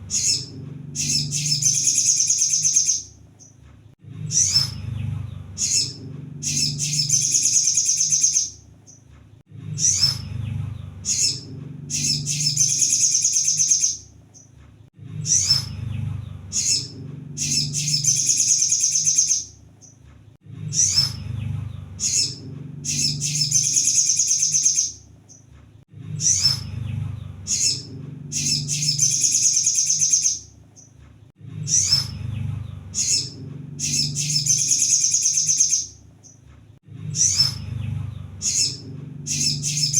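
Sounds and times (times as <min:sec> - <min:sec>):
sunbird chirps and trill: 0:00.0 - 0:03.6, 0:04.2 - 0:09.1, 0:09.7 - 0:14.5, 0:15.2 - 0:20.0, 0:20.7 - 0:25.5, 0:26.1 - 0:31.0, 0:31.6 - 0:36.4, 0:37.1 - 0:39.9.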